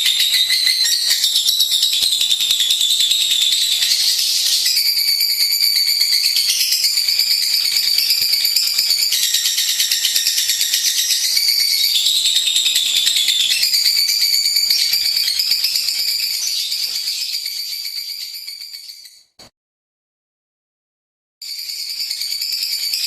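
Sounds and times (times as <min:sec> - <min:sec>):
lovebird chattering twitter: 0:00.0 - 0:19.1.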